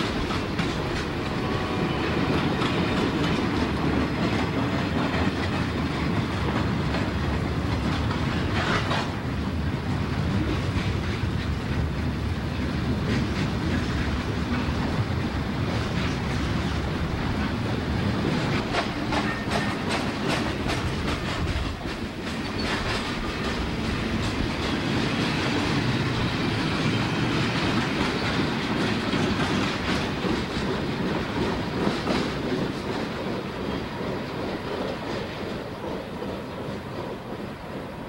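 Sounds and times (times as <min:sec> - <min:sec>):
freight train rumbling: 0:00.0 - 0:38.0
train wheels clicking over rail joints: 0:00.0 - 0:38.0.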